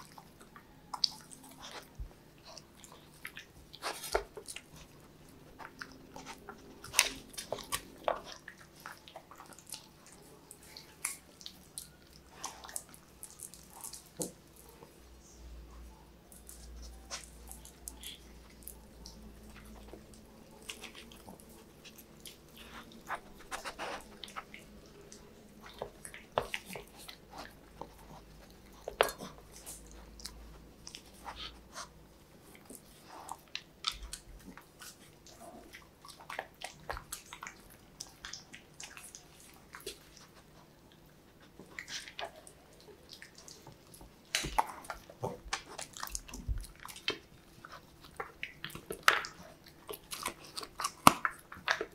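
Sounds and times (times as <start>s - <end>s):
dogs chewing food: 0.0s - 15.3s, 16.2s - 51.9s.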